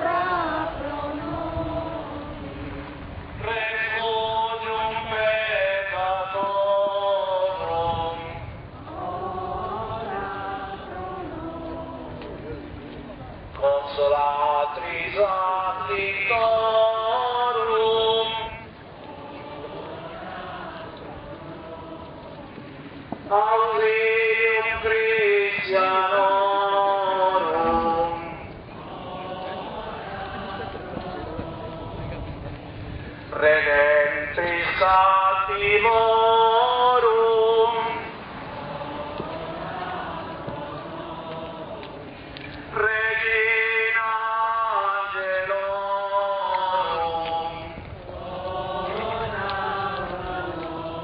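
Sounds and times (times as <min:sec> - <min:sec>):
voices singing a slow hymn: 0:00.0 - 0:51.0.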